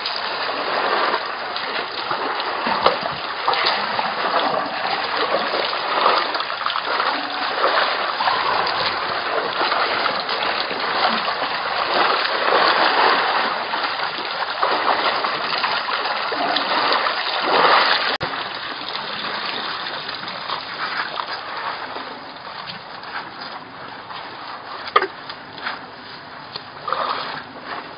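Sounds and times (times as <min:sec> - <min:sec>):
elephants splashing in water: 0:00.0 - 0:27.9.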